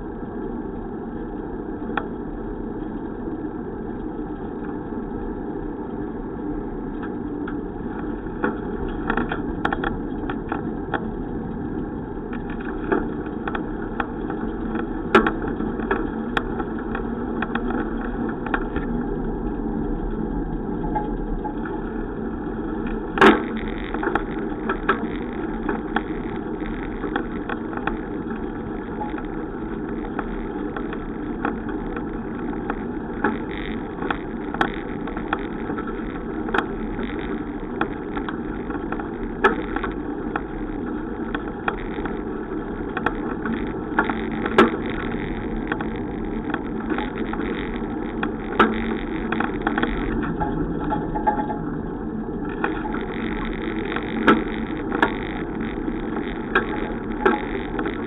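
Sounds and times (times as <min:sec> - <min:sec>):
bicycle riding rumble: 0:00.0 - 0:58.0.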